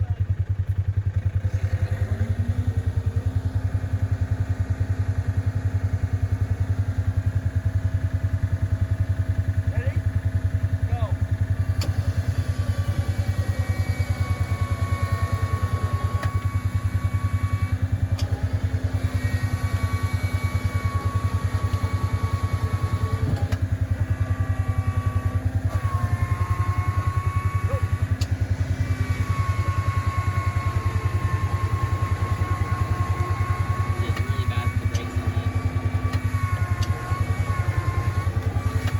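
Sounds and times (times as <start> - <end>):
engine running at low revs: 0.0 - 38.9.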